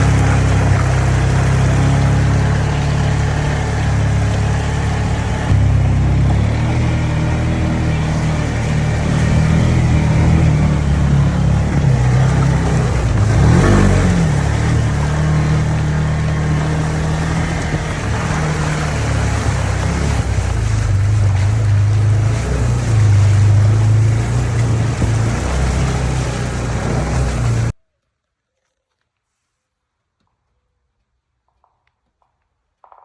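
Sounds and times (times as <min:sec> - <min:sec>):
engine running: 0:00.0 - 0:27.8.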